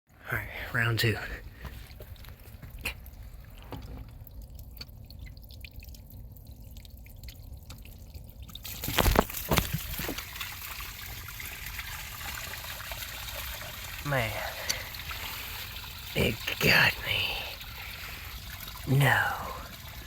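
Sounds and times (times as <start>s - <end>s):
drain water pouring and splashing: 0.5s - 20.0s.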